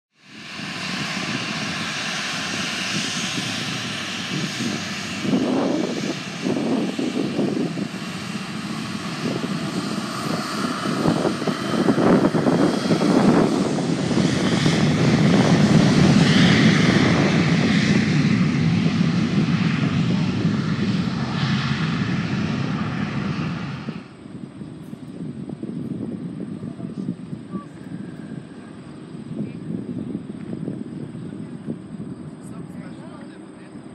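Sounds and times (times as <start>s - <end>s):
jet engines at high power: 0.1s - 33.9s.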